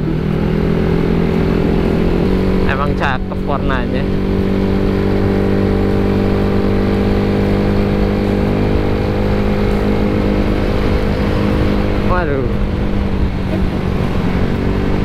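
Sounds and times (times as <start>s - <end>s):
road and wind noise: 0.0s - 15.0s
scooter engine cruising: 0.0s - 15.0s.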